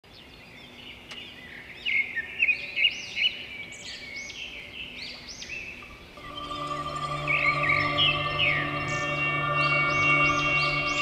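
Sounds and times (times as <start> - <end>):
small birds chirping and singing: 0.0 - 11.0.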